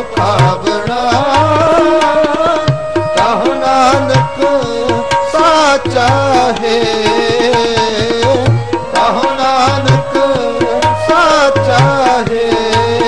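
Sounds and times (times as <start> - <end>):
tabla playing a rhythm: 0.0 - 13.0.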